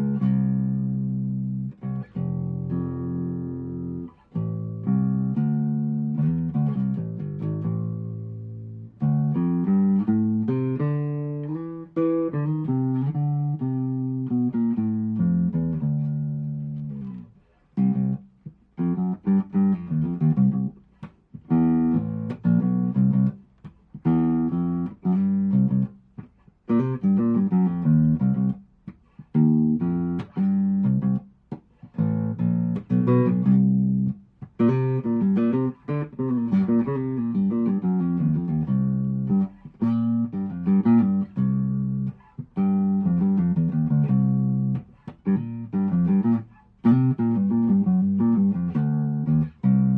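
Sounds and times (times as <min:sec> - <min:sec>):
electric bass plucked notes: 0:00.0 - 0:49.9.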